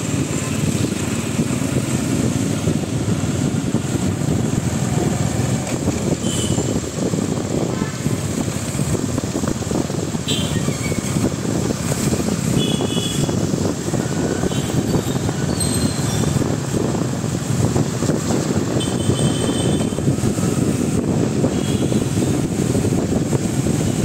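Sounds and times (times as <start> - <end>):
motorbike running: 0.0 - 24.0
wind buffeting microphone: 0.0 - 24.0.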